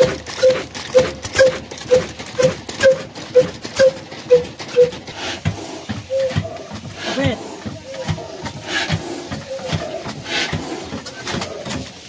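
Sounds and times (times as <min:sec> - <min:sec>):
flywheel engine knocking: 0:00.0 - 0:12.0.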